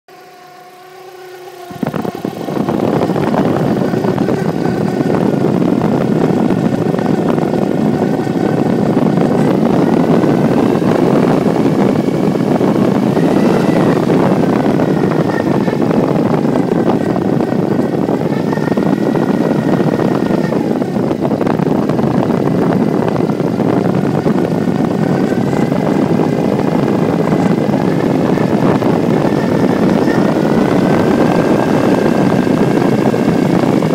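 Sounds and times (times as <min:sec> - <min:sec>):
car engine running: 0:00.1 - 0:33.9
faint wavering whine: 0:00.1 - 0:33.9.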